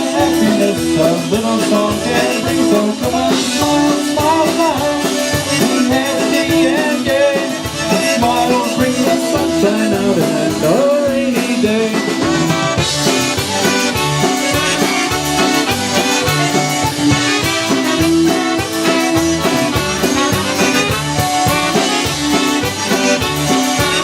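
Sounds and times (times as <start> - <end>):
accordion: 0.0 - 24.0
drum kit beat: 0.0 - 24.0
polka band playing: 0.0 - 24.0.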